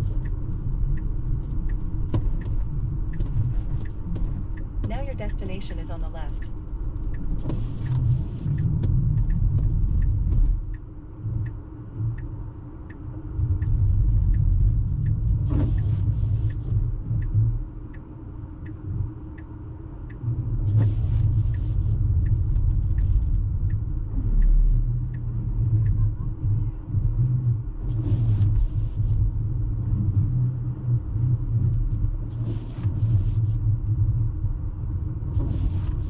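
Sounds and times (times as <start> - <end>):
road and tyre rumble: 0.0 - 36.0
turn signal ticking: 0.0 - 36.0.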